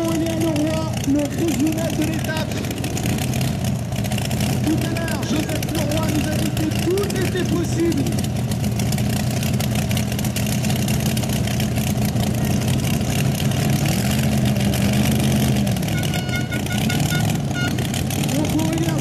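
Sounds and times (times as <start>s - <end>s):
racing engine idling: 0.0s - 19.0s.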